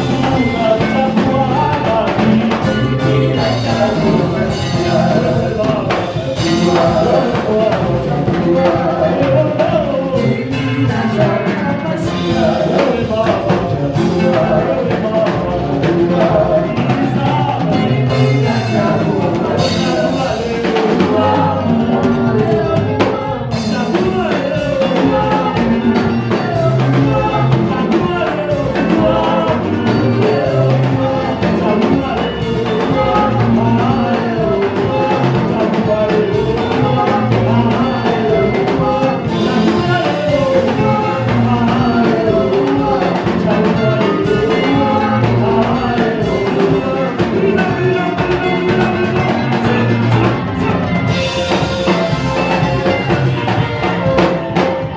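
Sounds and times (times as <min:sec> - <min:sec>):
band playing upbeat song: 0:00.0 - 0:54.9
drum kit beat: 0:00.0 - 0:54.9
people singing: 0:00.0 - 0:54.9.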